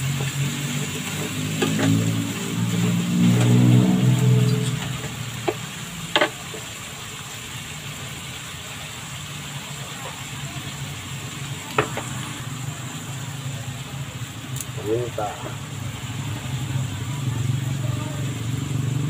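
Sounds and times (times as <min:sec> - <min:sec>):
seafood sizzling in a pan: 0:00.0 - 0:19.0.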